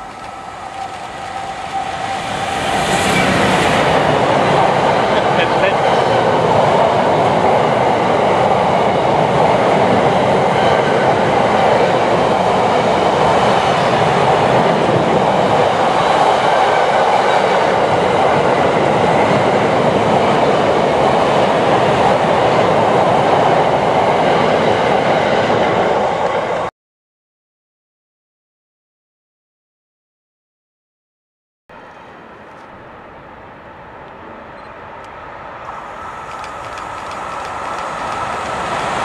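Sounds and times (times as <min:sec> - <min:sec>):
train wheels on rails: 0:00.0 - 0:26.7, 0:31.8 - 0:39.0.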